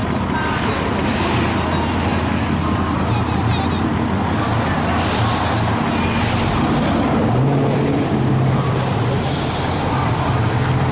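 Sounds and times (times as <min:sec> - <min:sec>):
car engine running: 0:00.0 - 0:10.9
traffic noise: 0:00.0 - 0:10.9.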